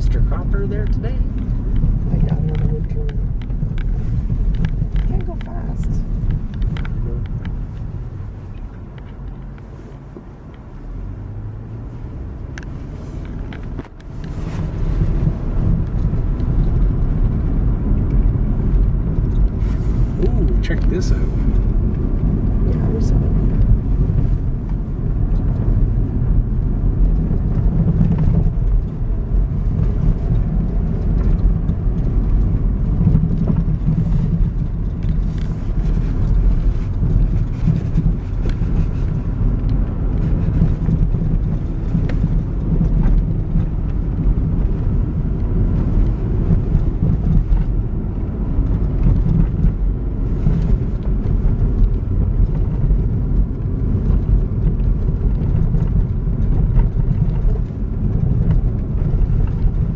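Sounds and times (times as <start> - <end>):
truck engine and tyres rumbling: 0.0 - 59.9.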